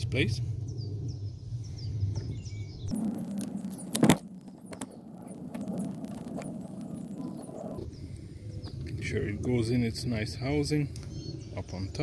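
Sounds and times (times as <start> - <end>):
birds chirping: 0.0 - 12.0
low hum: 0.0 - 12.0.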